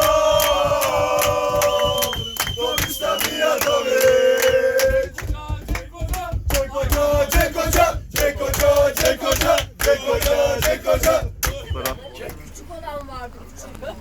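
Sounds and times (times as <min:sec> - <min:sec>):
men chanting and singing: 0:00.0 - 0:12.0.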